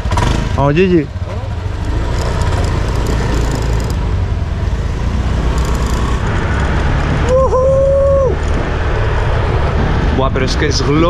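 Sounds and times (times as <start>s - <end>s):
motorbike engine rumble: 0.0s - 10.3s
road noise: 0.0s - 11.0s.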